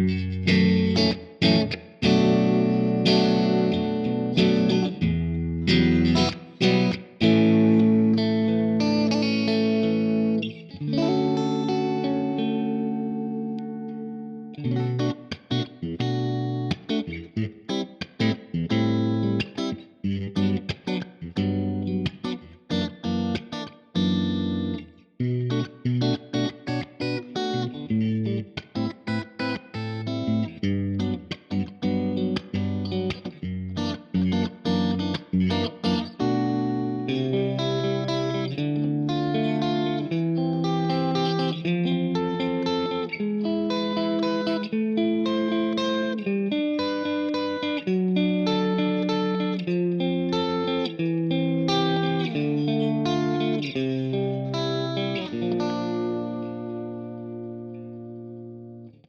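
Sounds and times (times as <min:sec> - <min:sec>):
electric guitar chords through amp: 0:00.0 - 0:59.0.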